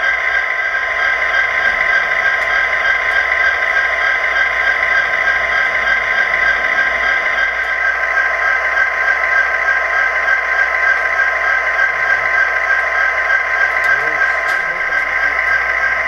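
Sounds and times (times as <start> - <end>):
diesel engine sound from small speaker: 0.0 - 16.0.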